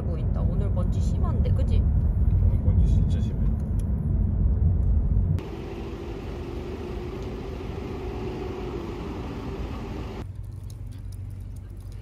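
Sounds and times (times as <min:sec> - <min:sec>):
faint engine hum: 0:00.0 - 0:12.0
road traffic noise: 0:00.0 - 0:12.0.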